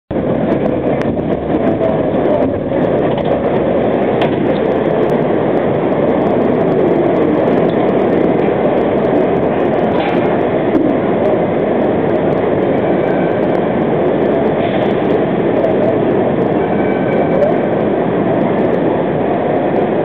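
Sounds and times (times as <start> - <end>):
cable car rumbling on turntable: 0.1 - 20.0.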